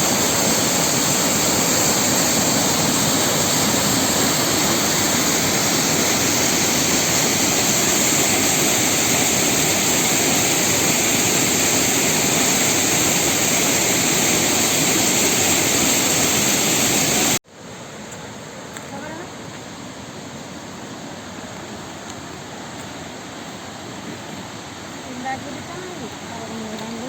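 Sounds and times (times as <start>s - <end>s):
waterfall rushing: 0.0s - 17.4s, 19.3s - 27.0s.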